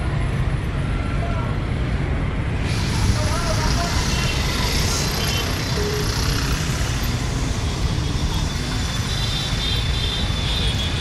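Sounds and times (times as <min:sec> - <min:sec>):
heavy road traffic: 0:00.0 - 0:11.0
motorcycle engine and road noise: 0:00.0 - 0:11.0.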